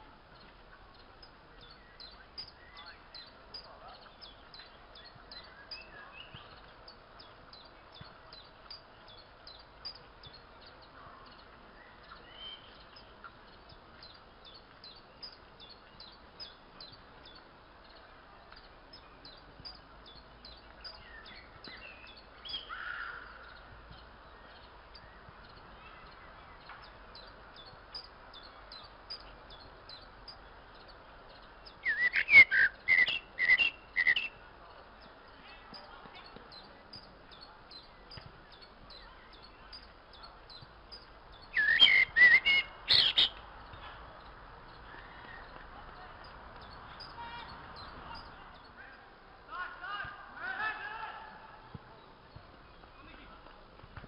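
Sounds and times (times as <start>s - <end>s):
bird chirping: 0.0s - 49.9s
faint steady hiss: 0.0s - 54.0s.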